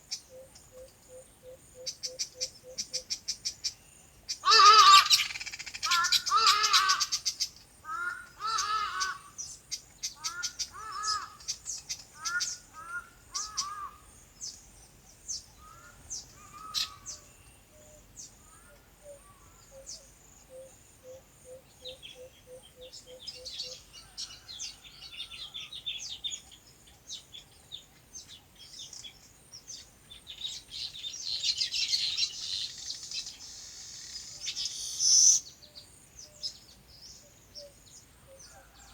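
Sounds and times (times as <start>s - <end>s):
birds calling and chirping: 0.0s - 38.9s.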